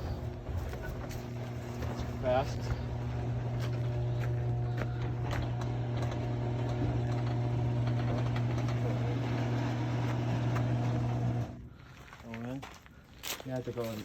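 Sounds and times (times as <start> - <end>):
garage door motor humming: 0.0 - 11.8.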